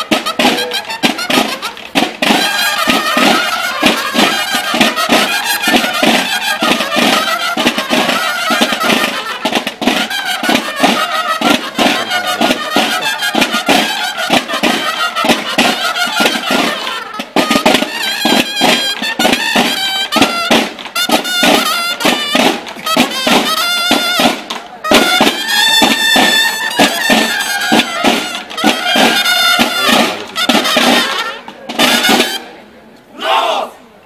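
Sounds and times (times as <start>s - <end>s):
loud music with dense percussion: 0.0s - 32.4s.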